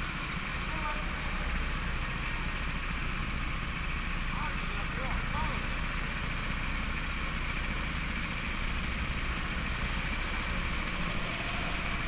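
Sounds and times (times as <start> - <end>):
go-kart engines running: 0.0 - 12.0.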